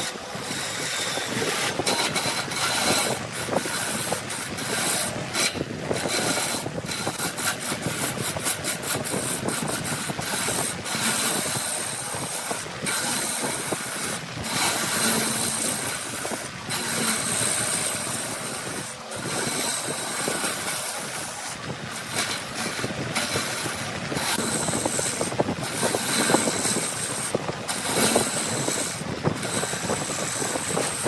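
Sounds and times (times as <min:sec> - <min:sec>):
lathe tool scraping wood: 0:00.0 - 0:31.0.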